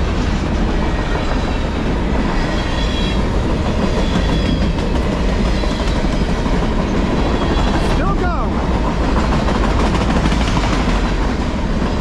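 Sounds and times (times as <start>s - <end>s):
train rumbling past: 0.0s - 12.0s
wheels clacking over rails: 0.0s - 12.0s.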